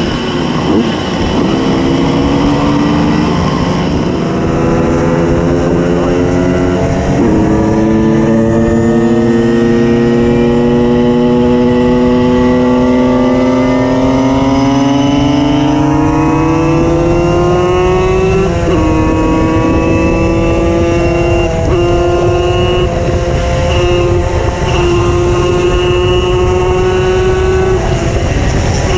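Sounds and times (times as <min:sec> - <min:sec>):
lower engine droning: 0:00.0 - 0:28.9.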